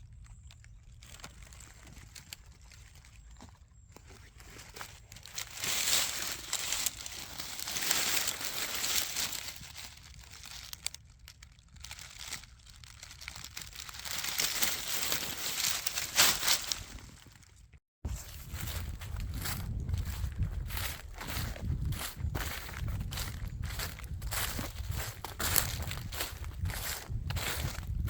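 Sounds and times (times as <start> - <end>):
leaves crunching underfoot: 0.3 - 28.0.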